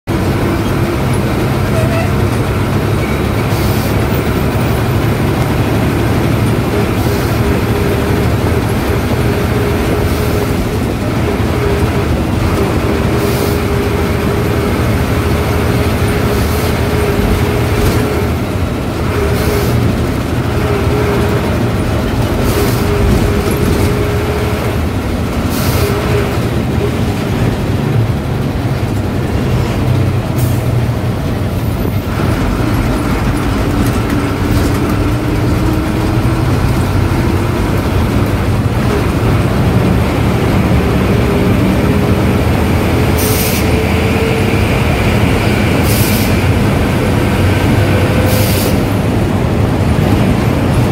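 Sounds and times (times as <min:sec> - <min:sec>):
diesel bus engine running: 0:00.0 - 0:50.9
road noise: 0:00.0 - 0:50.9.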